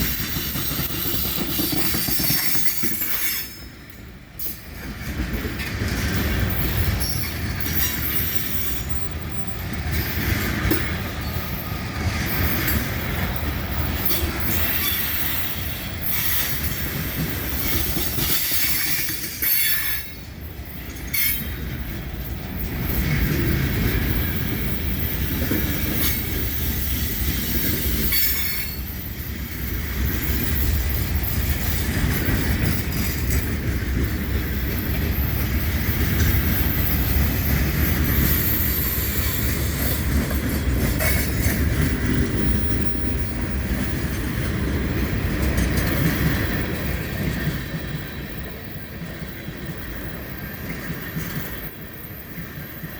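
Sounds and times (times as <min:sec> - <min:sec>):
freight train rumbling past: 0:00.0 - 0:52.9
train cars clanking: 0:00.0 - 0:52.9.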